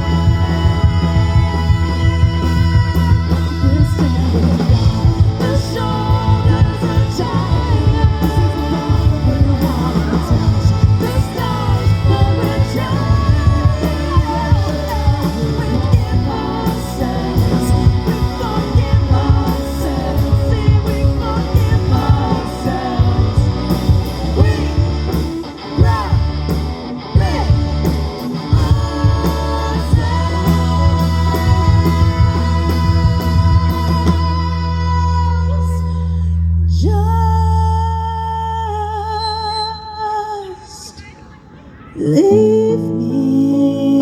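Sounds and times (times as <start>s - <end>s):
live rock band playing: 0.0s - 36.0s.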